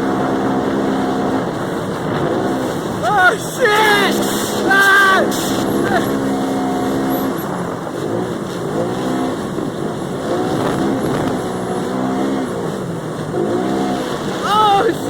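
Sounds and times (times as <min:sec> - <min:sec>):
engine running under throttle: 0:00.0 - 0:15.0.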